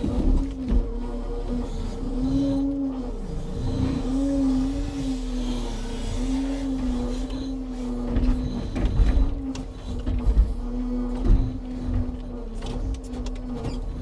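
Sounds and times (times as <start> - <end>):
hydraulic crane humming: 0.0 - 14.0.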